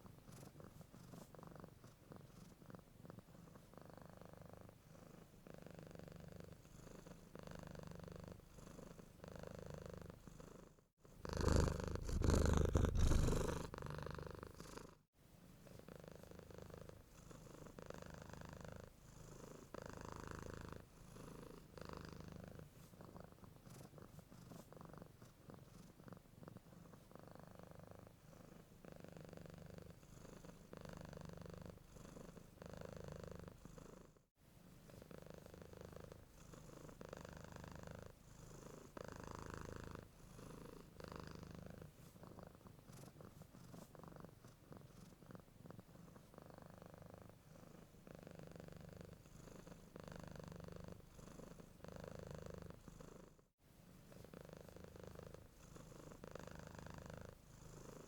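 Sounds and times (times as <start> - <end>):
cat purring: 0.0 - 34.2, 34.8 - 58.0.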